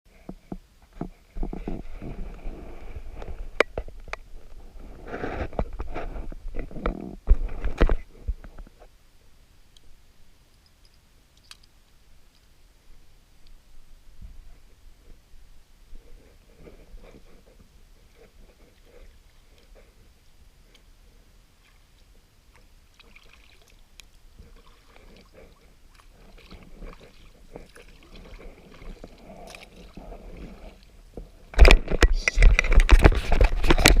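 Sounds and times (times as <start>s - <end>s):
kayak paddle in water: 0.1s - 34.0s.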